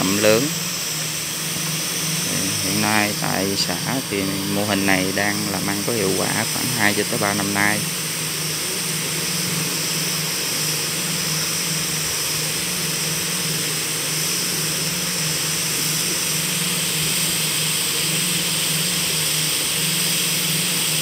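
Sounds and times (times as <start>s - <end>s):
aeration equipment droning: 0.0s - 21.0s.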